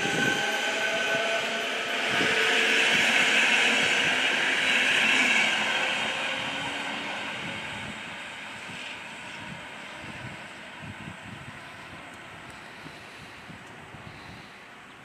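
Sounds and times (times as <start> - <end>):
electric train wheels rushing on rails: 0.0 - 15.0.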